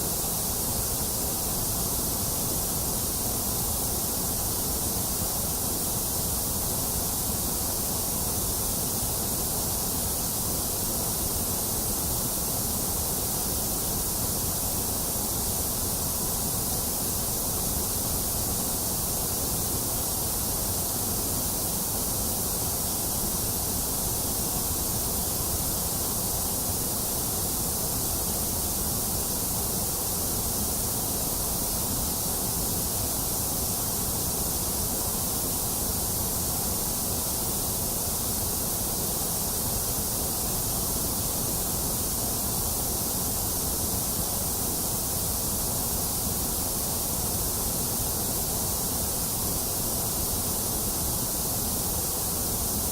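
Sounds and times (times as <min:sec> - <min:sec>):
steady white noise: 0:00.0 - 0:52.9.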